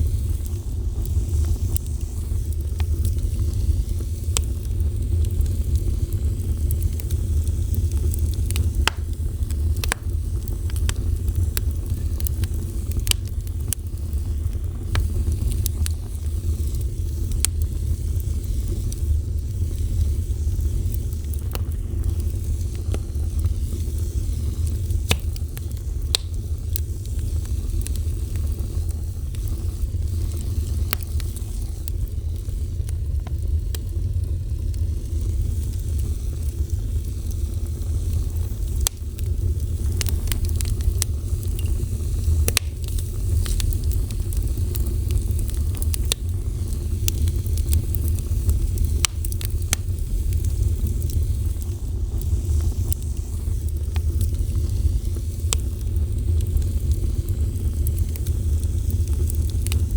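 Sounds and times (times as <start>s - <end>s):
fire crackling and roaring: 0.0s - 59.9s.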